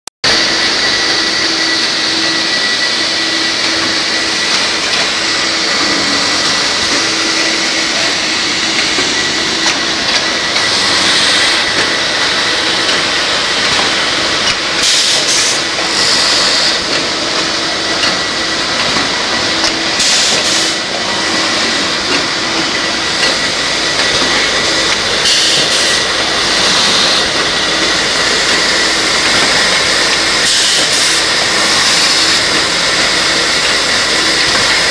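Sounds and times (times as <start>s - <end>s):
machine whirring: 0.3s - 34.9s.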